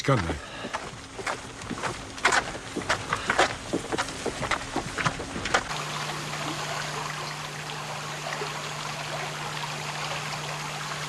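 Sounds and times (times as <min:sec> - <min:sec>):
low hum: 0:00.0 - 0:11.0
river water flowing: 0:00.8 - 0:11.0.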